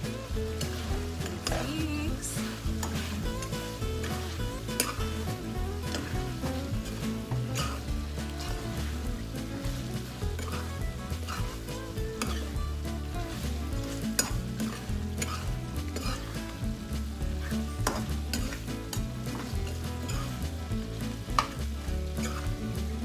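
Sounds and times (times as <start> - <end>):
curry sizzling in a hot pan: 0.0 - 23.0
spoon scraping and knocking pan: 0.0 - 23.0.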